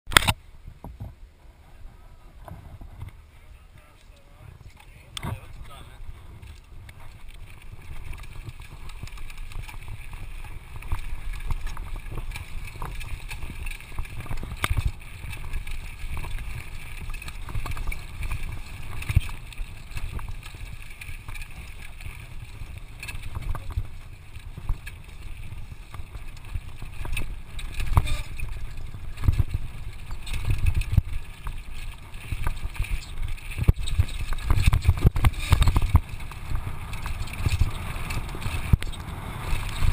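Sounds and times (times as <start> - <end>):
wind buffeting microphone: 0.6 - 39.9
bike tyres crunching on gravel: 1.8 - 39.9
bike rattling over bumps: 2.2 - 39.9.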